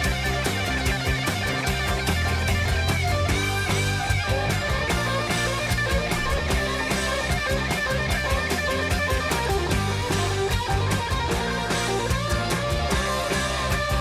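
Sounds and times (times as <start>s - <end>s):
bass guitar: 0.0s - 14.0s
drums: 0.0s - 14.0s
fast electric guitar lead: 0.0s - 14.0s.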